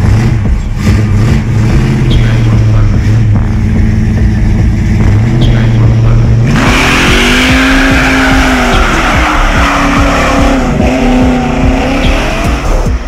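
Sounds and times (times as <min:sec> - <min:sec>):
sports car engine: 0:00.0 - 0:13.0.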